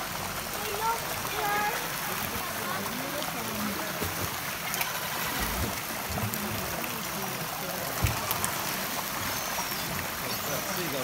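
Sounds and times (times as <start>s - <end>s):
water pouring from pipe: 0.0s - 11.0s.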